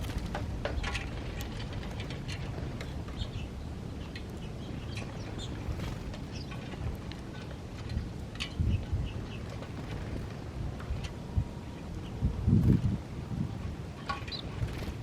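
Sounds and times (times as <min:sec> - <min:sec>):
small birds chirping: 0:00.0 - 0:12.9, 0:13.6 - 0:15.0
steady low rumble: 0:00.0 - 0:15.0.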